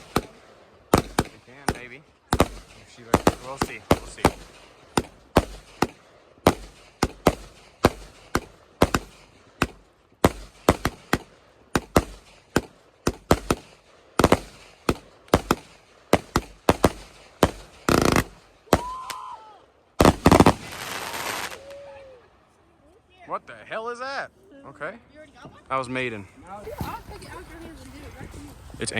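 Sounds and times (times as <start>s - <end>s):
fireworks bangs: 0.0s - 22.2s, 26.5s - 28.9s
fireworks crackling: 0.0s - 23.7s, 26.0s - 28.9s.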